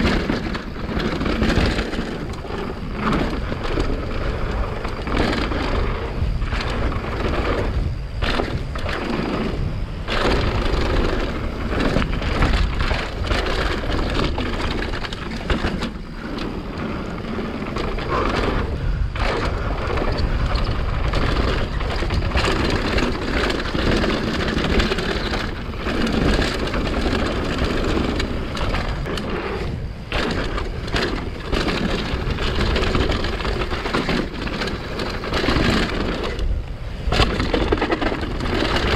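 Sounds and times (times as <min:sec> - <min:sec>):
bike chain and frame clattering: 0:00.0 - 0:38.9
bike tyres crunching on dirt: 0:00.0 - 0:38.9.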